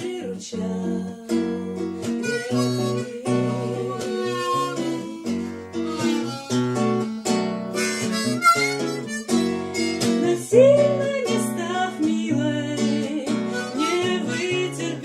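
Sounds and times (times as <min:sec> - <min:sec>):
acoustic guitar strumming: 0:00.0 - 0:15.0
harmonica melody: 0:01.6 - 0:11.6, 0:12.8 - 0:15.0.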